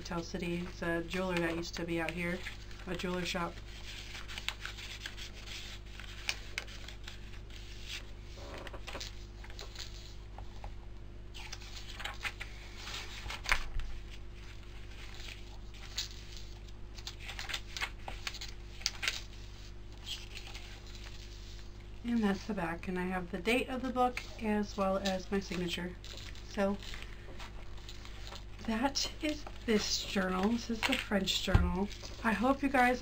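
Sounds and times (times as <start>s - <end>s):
steady low hum: 0.0s - 33.0s
paper pages turning and rustling: 0.5s - 22.5s, 23.8s - 33.0s.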